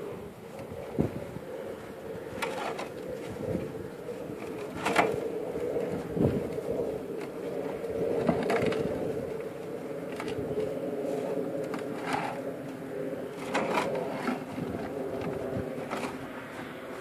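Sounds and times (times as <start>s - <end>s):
steady low hum: 0.0s - 17.0s
cattle crunching grain: 2.2s - 17.0s.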